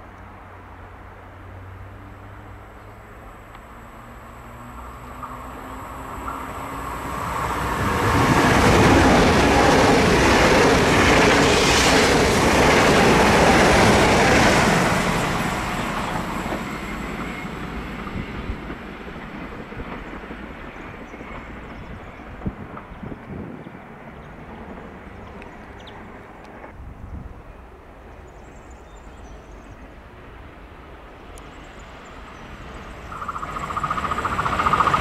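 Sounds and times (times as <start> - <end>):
high-speed train rushing past: 0.0 - 35.0.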